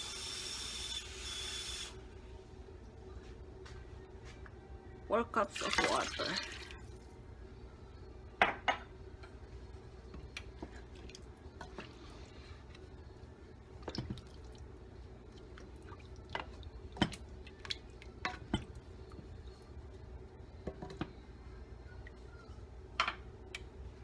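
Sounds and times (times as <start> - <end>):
low steady hum: 1.7 - 24.0.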